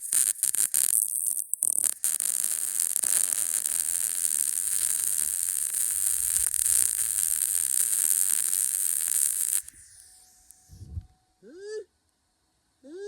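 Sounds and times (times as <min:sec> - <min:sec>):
welding arc crackling sizzle: 0:00.0 - 0:10.8.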